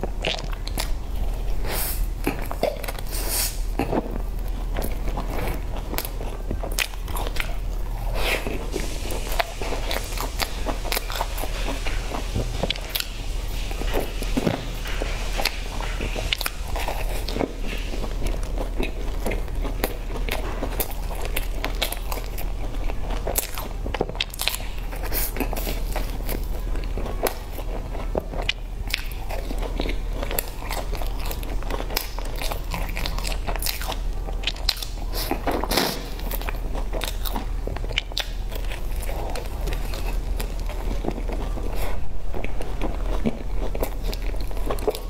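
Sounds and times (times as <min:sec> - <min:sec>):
crunchy chewing: 0:00.0 - 0:45.0
low steady hum: 0:00.0 - 0:45.0.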